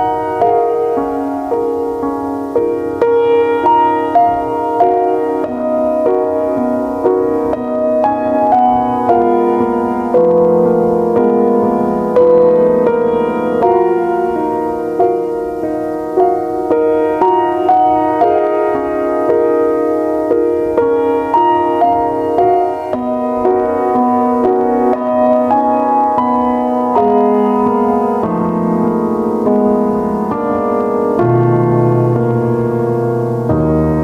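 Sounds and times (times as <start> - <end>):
slow piano melody: 0.0 - 34.0.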